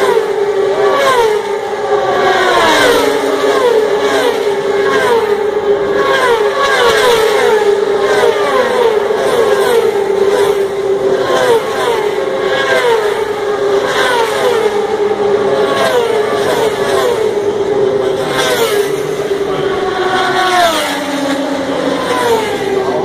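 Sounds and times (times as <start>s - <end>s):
motorcycles passing at speed: 0.0s - 23.0s
steady engine drone: 0.0s - 23.0s.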